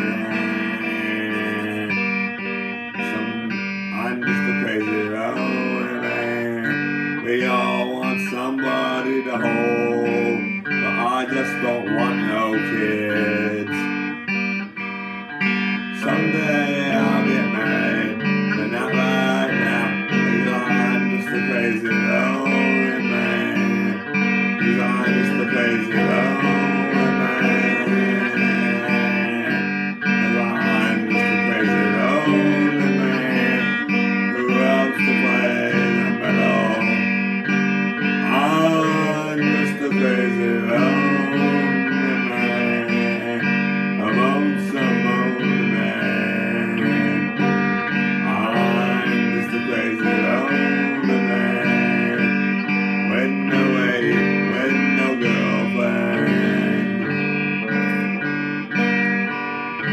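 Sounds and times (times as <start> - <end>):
electric guitar lead notes: 0.0 - 59.9.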